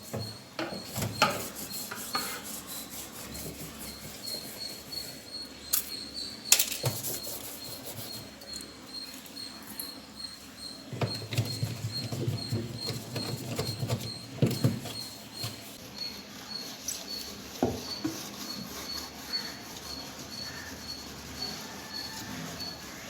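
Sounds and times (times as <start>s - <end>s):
scrubbing with lemon and salt: 0.8s - 5.3s, 7.0s - 9.7s, 11.1s - 23.0s.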